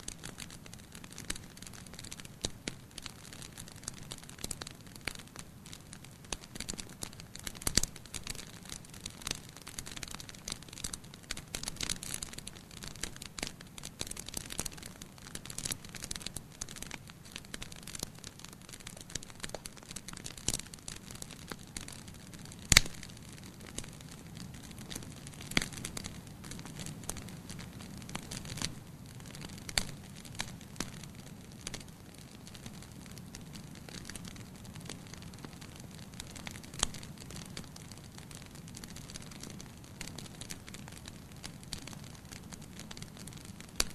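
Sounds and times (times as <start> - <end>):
fire crackling: 0.0 - 43.9
fire snaps and pops: 0.0 - 43.9.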